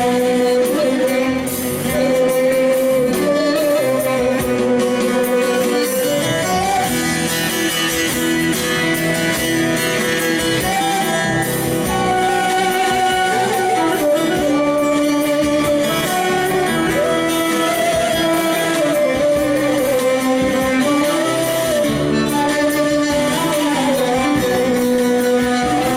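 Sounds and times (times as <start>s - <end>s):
folk music with plucked strings: 0.0s - 25.9s.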